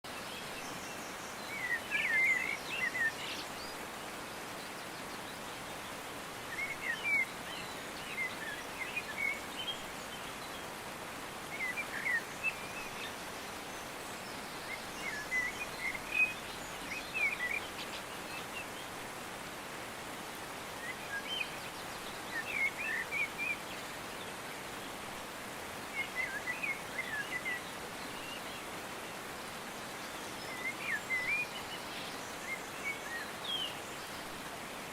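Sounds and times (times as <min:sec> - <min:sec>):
songbird singing: 0:00.0 - 0:34.9
steady outdoor hiss: 0:00.0 - 0:34.9.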